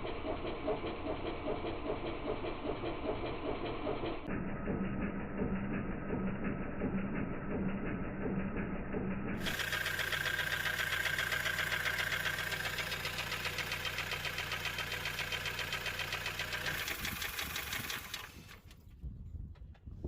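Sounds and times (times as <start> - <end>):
engine knocking tick: 0.0 - 19.9
engine hum: 0.0 - 20.0.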